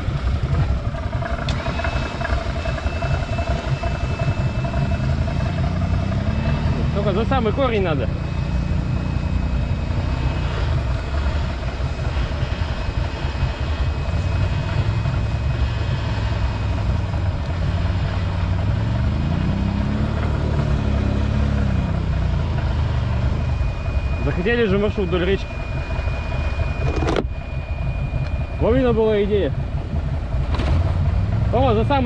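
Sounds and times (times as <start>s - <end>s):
atv engine idling and revving: 0.0s - 32.0s.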